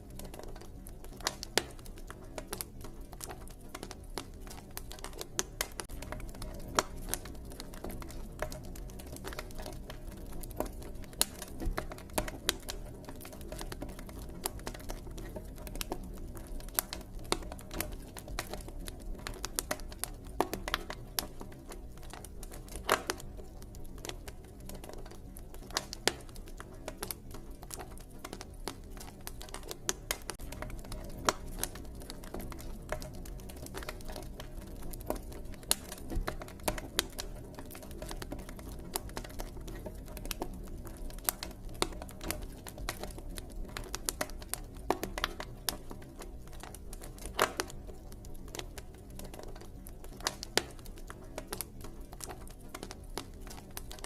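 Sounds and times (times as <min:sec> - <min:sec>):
campfire crackling and popping: 0:00.0 - 0:54.0
low rumble of fire: 0:00.0 - 0:54.0.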